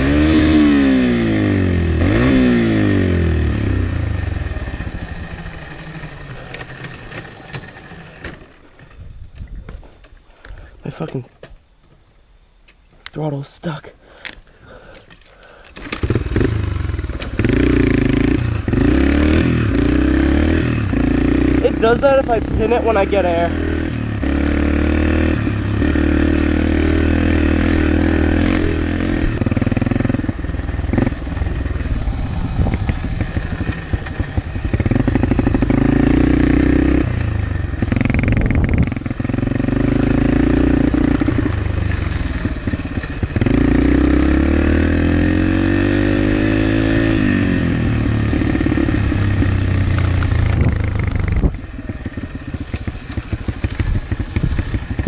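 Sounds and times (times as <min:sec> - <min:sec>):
dirt bike engine revving: 0:00.0 - 0:09.0, 0:15.8 - 0:55.0.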